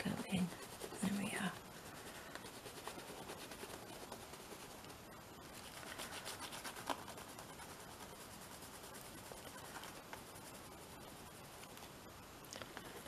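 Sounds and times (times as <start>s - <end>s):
pencil scratching on paper: 0.0s - 11.7s.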